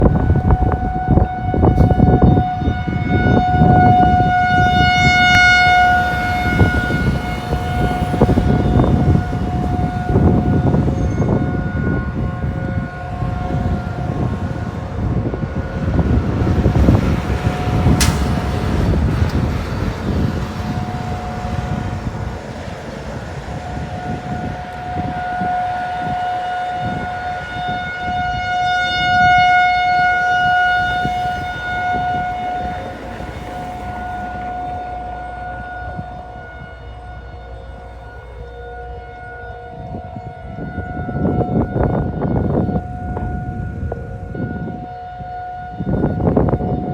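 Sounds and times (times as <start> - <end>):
low rumbling noise: 0.0 - 46.9
rotating warning siren: 0.0 - 46.9.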